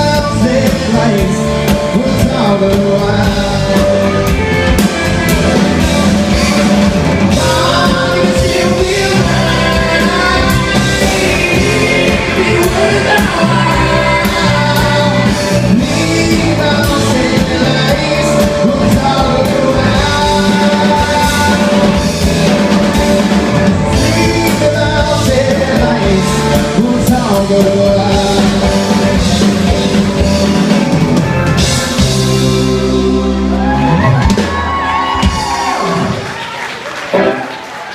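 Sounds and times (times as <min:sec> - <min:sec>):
live rock band playing: 0:00.0 - 0:37.8.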